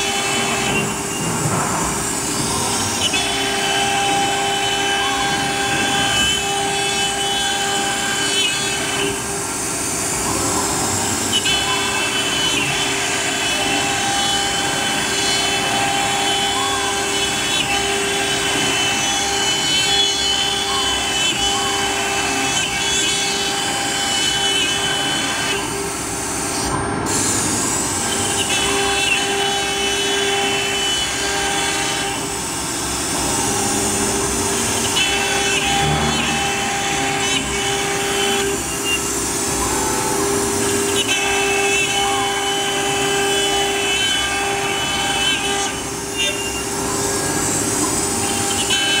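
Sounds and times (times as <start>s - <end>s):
router spindle whining: 0.0s - 49.0s.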